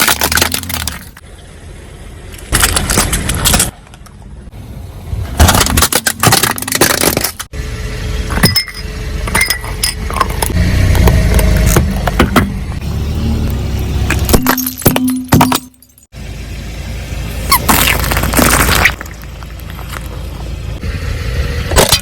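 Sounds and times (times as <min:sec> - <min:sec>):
car tyre crushing crunchy objects: 0:00.0 - 0:01.4, 0:02.2 - 0:04.4, 0:05.1 - 0:16.1, 0:17.4 - 0:20.8, 0:21.4 - 0:22.0.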